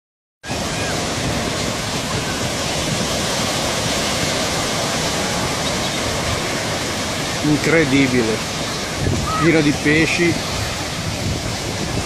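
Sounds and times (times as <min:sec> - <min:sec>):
sea water rushing: 0:00.4 - 0:12.0
wind: 0:00.4 - 0:12.0.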